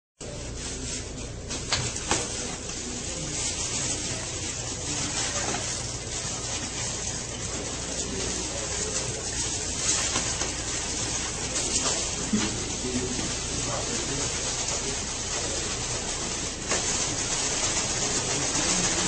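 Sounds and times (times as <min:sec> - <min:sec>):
plastic wrap rustling and tearing: 0:00.2 - 0:19.0.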